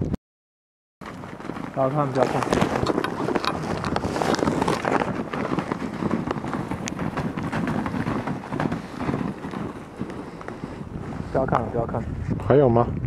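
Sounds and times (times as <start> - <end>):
bison hooves running on snow: 1.0 - 12.0.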